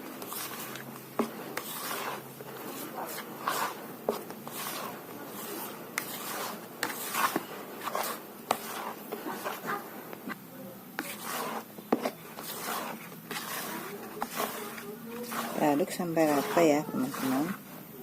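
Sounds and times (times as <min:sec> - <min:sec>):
spatula swishing batter: 0:00.0 - 0:18.0.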